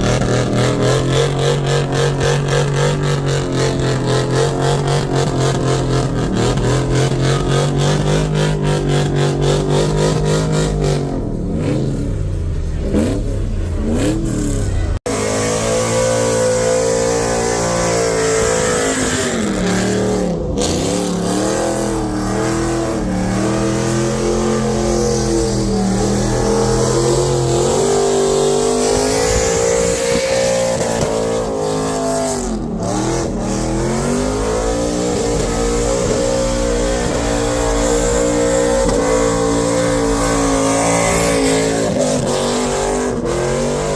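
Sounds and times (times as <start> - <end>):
car engine revving hard: 0.0 - 43.9.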